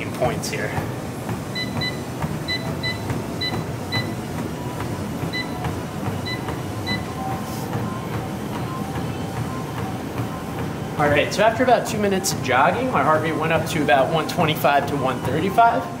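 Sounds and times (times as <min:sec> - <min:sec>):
footfalls on treadmill deck: 0:00.0 - 0:15.8
treadmill belt and motor running: 0:00.0 - 0:16.0
treadmill console beeping: 0:00.0 - 0:16.0.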